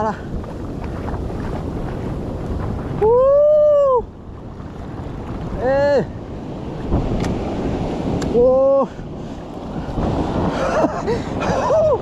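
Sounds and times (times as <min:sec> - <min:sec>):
surf washing over sand: 0:00.0 - 0:12.0
wind on microphone: 0:00.0 - 0:12.0.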